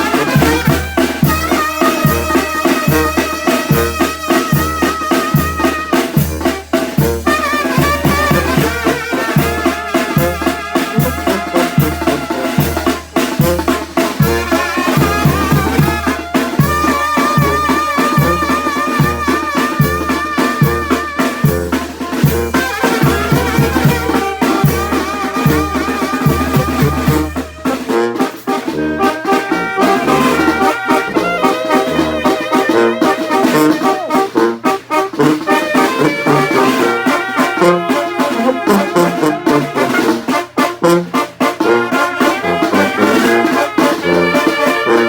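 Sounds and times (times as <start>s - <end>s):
brass band playing: 0.0s - 45.0s.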